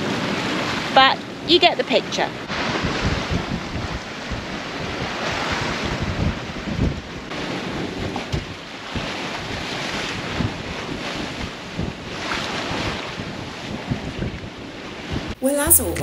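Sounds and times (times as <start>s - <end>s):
water rushing along a hull: 0.0s - 15.4s
wind buffeting microphone: 2.2s - 15.4s.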